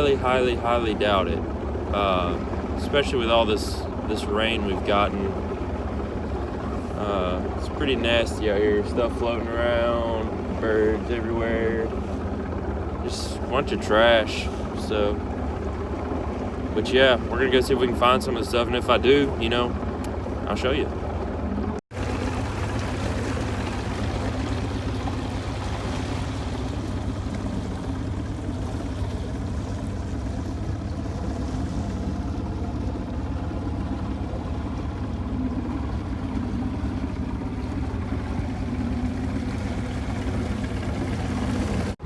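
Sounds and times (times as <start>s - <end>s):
outboard motor idling: 0.0s - 42.0s.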